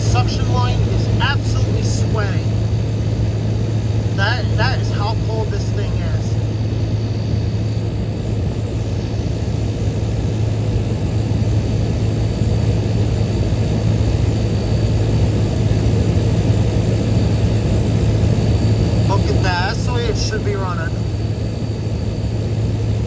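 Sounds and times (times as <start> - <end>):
compressor hum: 0.0 - 22.8.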